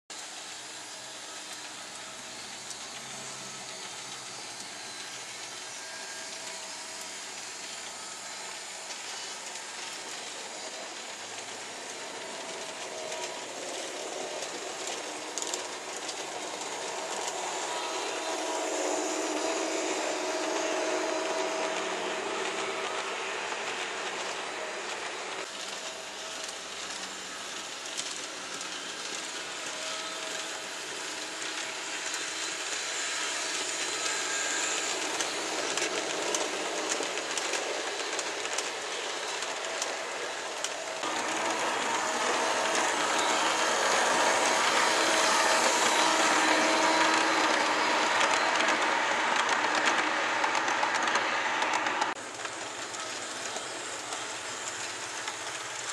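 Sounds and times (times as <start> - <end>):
model train motor hum: 0.2 - 55.9
small wheels clicking on rails: 0.2 - 55.9.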